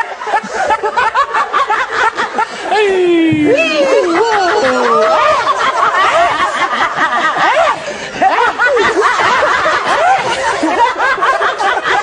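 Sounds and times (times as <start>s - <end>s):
people laughing and giggling: 0.0s - 12.0s.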